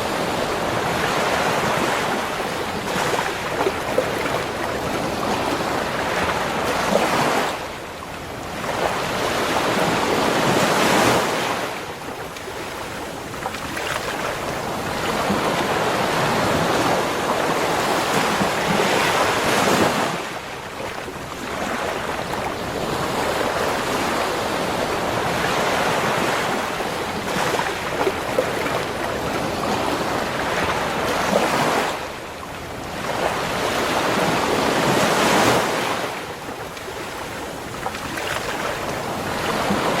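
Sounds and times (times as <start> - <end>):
ocean waves breaking on shore: 0.0 - 40.0.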